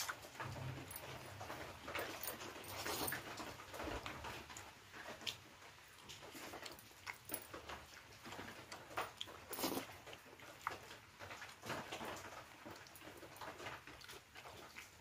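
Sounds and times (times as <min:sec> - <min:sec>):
chewing and lip-smacking: 0:00.0 - 0:15.0.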